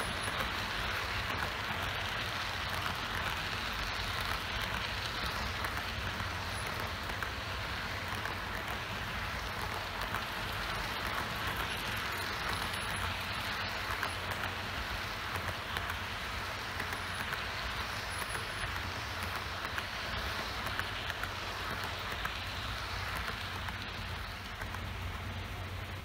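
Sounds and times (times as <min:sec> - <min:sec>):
model train wheels rattling: 0:00.0 - 0:26.0.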